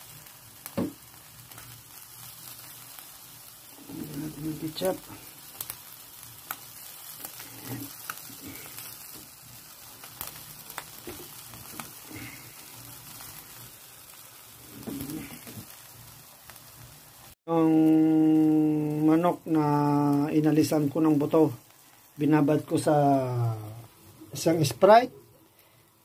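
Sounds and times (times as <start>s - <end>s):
chicken sizzling on a grill: 0.0s - 26.0s.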